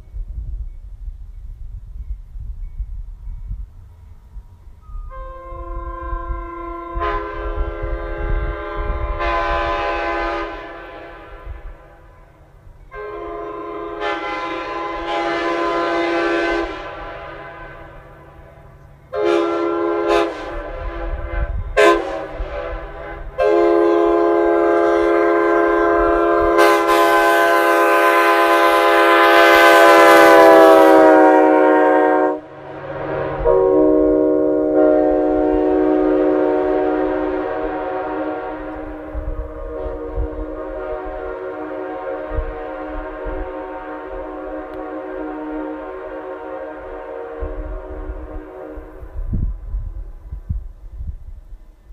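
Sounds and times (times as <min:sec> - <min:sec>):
air horn chord blasts: 0:05.0 - 0:11.8, 0:12.9 - 0:18.1, 0:19.1 - 0:49.2.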